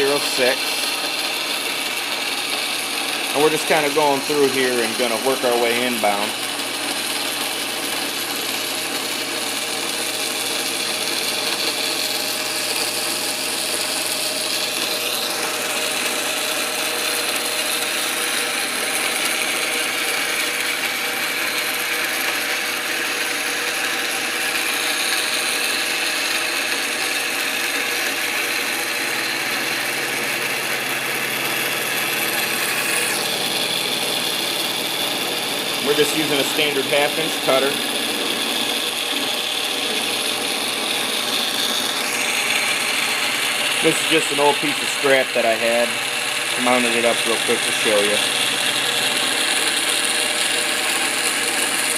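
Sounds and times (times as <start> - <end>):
milling machine cutting metal: 0.0 - 51.9.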